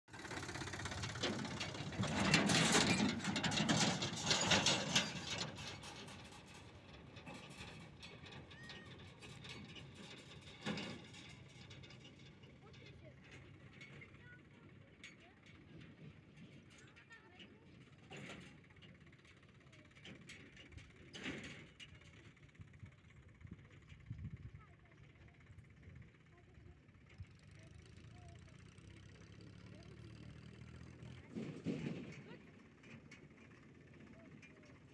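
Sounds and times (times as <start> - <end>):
tractor engine running: 0.1 - 34.9
trailer rattling and clattering: 0.1 - 34.9.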